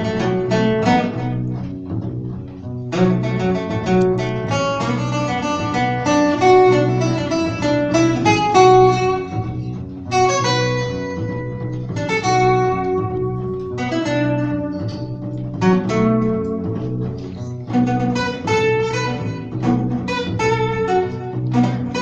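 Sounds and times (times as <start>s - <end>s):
plucked acoustic guitar notes: 0.0s - 22.0s
upright bass line: 0.0s - 22.0s.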